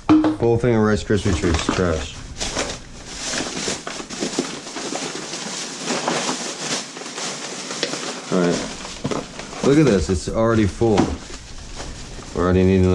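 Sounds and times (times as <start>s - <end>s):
plastic bag rustling: 1.1s - 12.9s.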